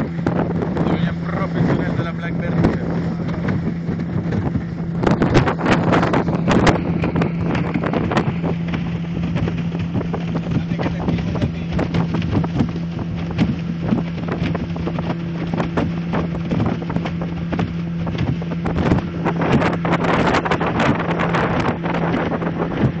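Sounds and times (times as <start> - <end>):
boat motor running: 0.0 - 23.0
hull knocking on water: 0.0 - 23.0
wind buffeting microphone: 0.0 - 23.0.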